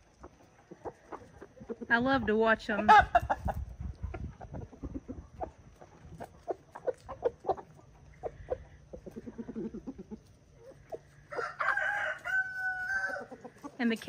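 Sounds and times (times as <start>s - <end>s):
chickens clucking softly: 0.0s - 14.0s.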